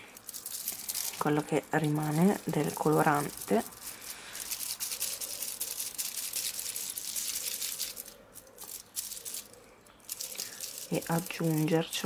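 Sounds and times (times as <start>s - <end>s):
scratching on aluminium foil: 0.0s - 12.0s.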